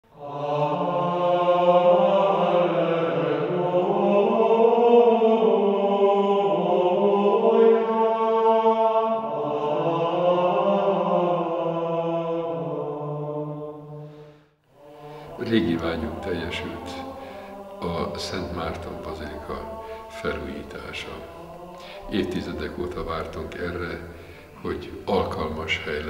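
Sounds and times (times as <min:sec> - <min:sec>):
voices singing plainchant: 0:00.1 - 0:13.9, 0:14.7 - 0:26.0.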